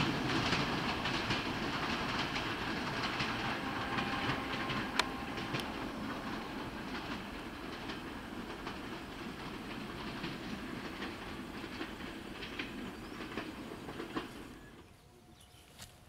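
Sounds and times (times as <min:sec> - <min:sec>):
train rumbling along track: 0:00.0 - 0:16.0
wheels clicking over rail joints: 0:00.0 - 0:16.0.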